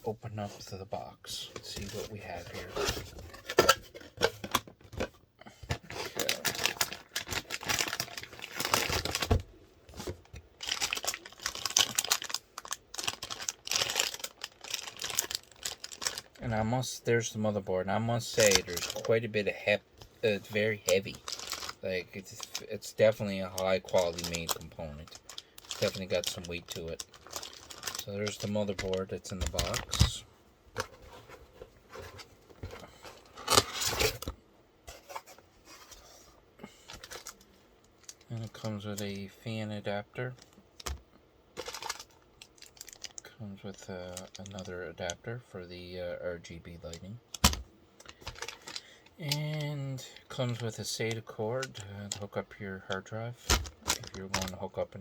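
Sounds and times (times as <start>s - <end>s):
packaging crinkling and rustling: 1.6s - 16.6s, 18.1s - 39.2s, 41.6s - 45.2s, 46.9s - 55.0s.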